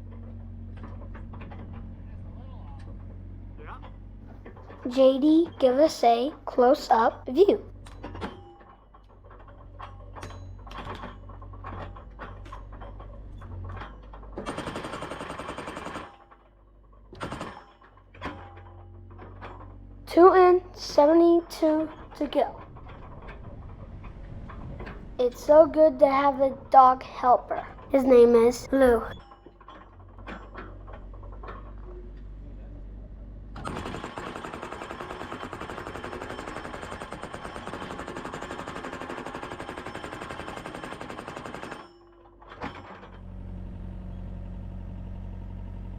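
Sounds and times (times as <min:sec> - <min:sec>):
excavator engine running: 0:00.0 - 0:29.2, 0:29.9 - 0:45.9.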